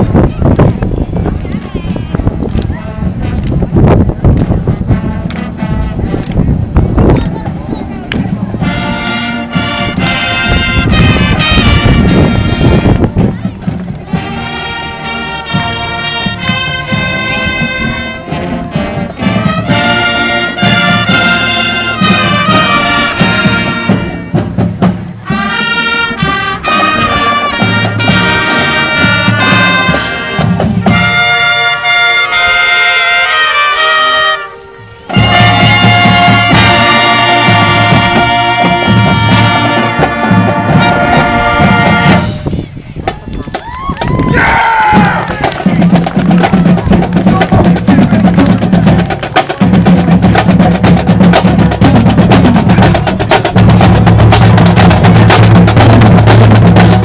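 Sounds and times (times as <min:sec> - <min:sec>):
marching band playing: 0:00.0 - 0:57.0.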